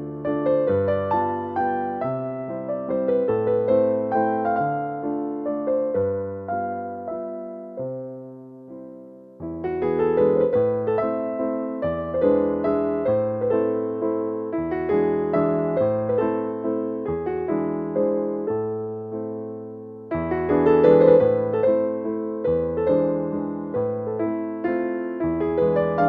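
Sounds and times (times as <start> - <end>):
soft piano melody: 0.0 - 26.0.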